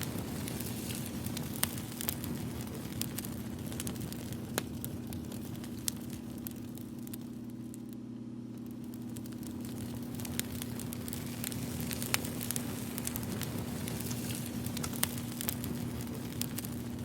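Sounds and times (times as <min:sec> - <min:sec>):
steady low hum: 0:00.0 - 0:17.0
wood fire crackling and popping: 0:00.0 - 0:17.0.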